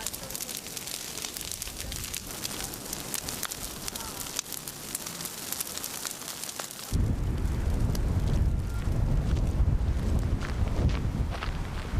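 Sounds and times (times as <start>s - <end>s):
fire hissing and crackling: 0.0s - 11.9s.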